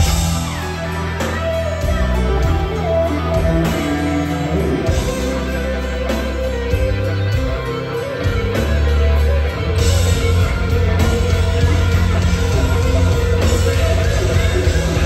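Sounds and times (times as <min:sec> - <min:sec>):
lead electric guitar: 0:00.0 - 0:15.0
live rock band instrumental: 0:00.0 - 0:15.0.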